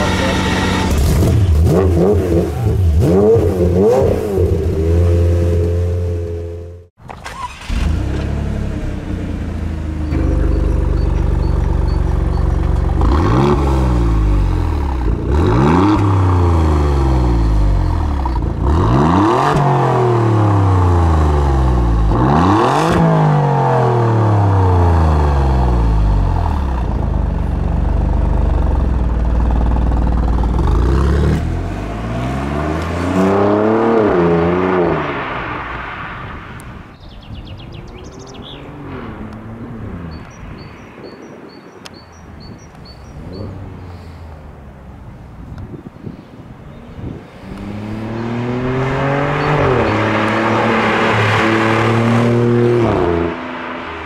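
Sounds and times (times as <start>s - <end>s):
car engine idling and revving: 0.0s - 36.8s, 41.8s - 54.0s.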